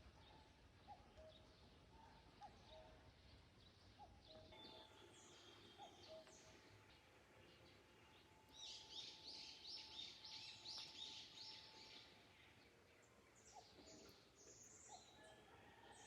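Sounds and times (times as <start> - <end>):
quiet forest ambience: 0.0 - 16.0.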